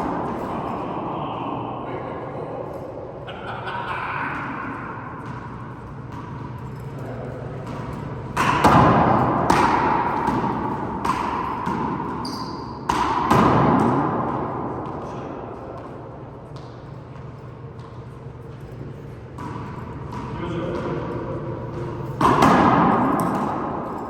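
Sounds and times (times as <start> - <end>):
handball hits echoing off walls: 0.0 - 2.8, 3.6 - 24.0.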